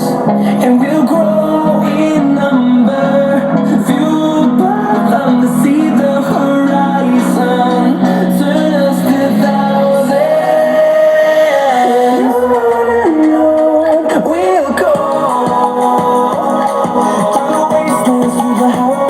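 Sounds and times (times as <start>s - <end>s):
song on a loud speaker: 0.0s - 19.0s.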